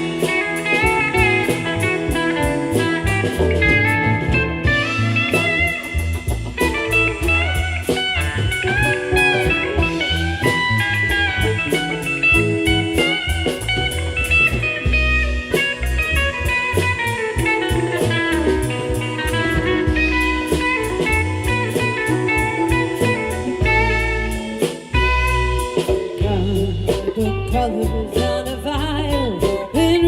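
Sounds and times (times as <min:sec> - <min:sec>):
bass guitar: 0:00.0 - 0:30.0
drum kit beat: 0:00.0 - 0:30.0
electric guitar lead: 0:00.0 - 0:30.0
keyboards: 0:00.0 - 0:30.0.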